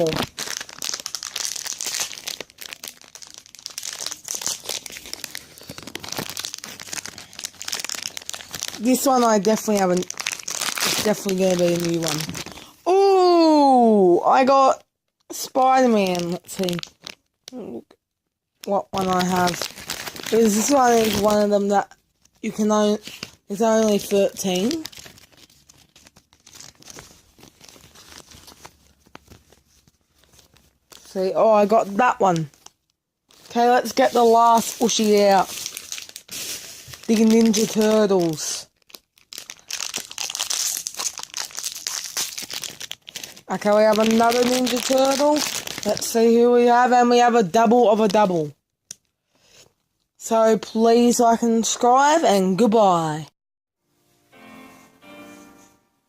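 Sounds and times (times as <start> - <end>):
plastic packet crinkling and tearing: 0.0 - 12.8, 15.3 - 17.8, 18.6 - 48.3.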